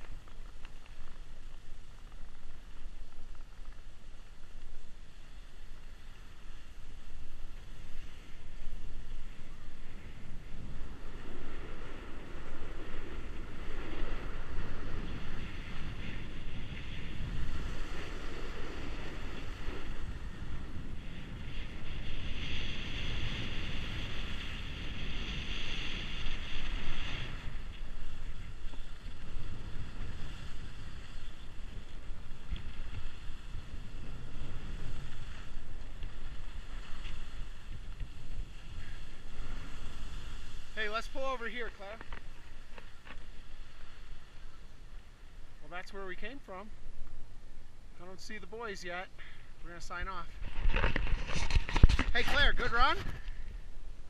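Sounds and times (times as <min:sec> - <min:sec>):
skis scraping over snow: 0:00.0 - 0:46.7, 0:48.0 - 0:53.5
wind buffeting microphone: 0:00.0 - 0:54.0.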